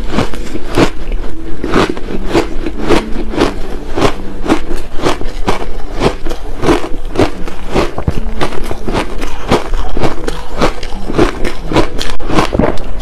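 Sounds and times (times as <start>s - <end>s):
crushed ice being chewed: 0.0s - 13.0s.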